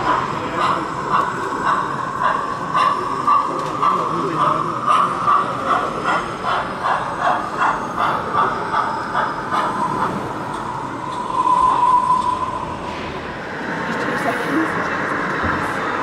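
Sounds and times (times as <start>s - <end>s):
model locomotive whine: 0.0s - 16.0s.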